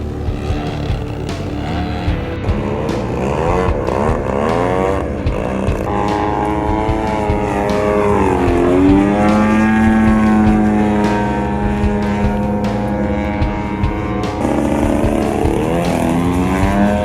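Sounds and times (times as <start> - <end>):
model plane engine in flight: 0.0 - 17.0.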